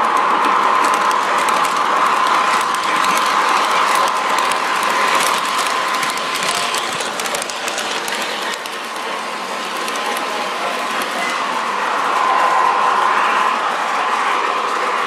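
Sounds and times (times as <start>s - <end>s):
wheels clicking on track: 0.0s - 12.7s.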